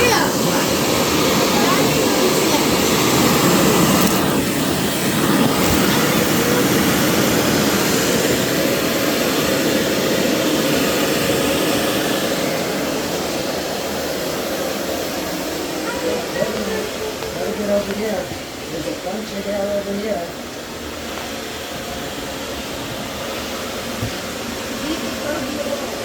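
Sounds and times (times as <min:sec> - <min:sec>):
vacuum cleaner on carpet: 0:00.0 - 0:26.0.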